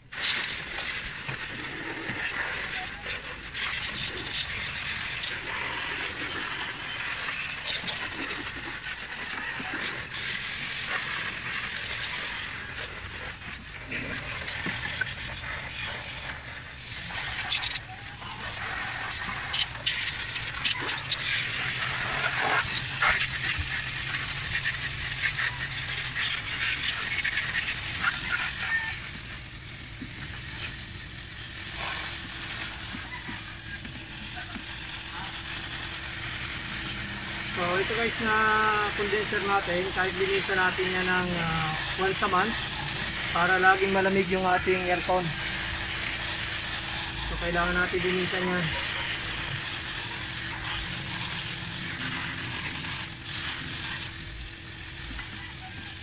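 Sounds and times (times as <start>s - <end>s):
hose water spraying on metal: 0.0s - 56.0s.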